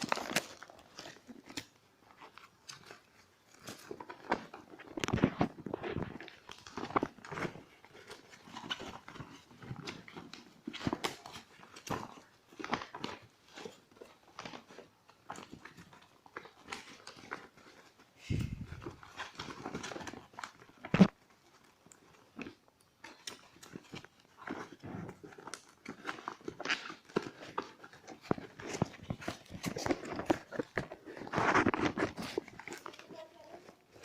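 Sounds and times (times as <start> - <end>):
packaging crinkling: 0.0 - 34.0.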